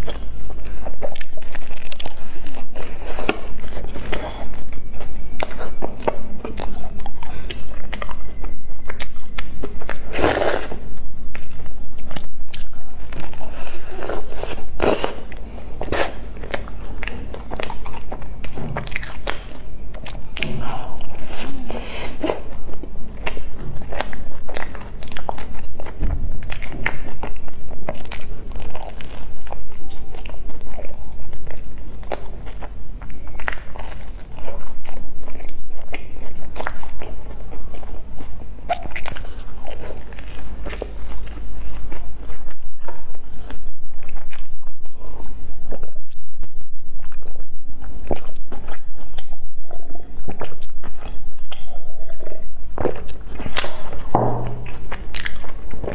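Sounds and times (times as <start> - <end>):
bread crust crunching: 0.0 - 46.0
wet chewing mouth sounds: 0.0 - 55.9.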